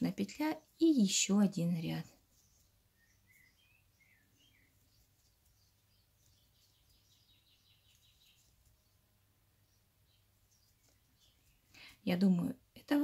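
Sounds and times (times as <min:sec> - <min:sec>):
faint high bird chirps: 0:00.0 - 0:12.6.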